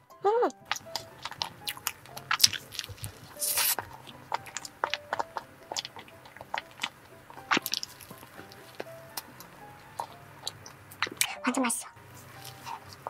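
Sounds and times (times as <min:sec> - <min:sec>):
wet mouth clicks and smacks: 0:00.6 - 0:11.4.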